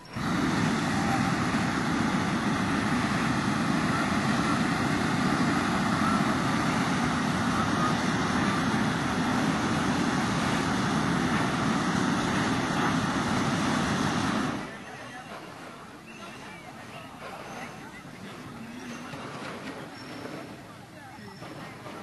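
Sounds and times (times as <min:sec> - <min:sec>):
hot-air balloon burner roaring: 0:00.0 - 0:22.0.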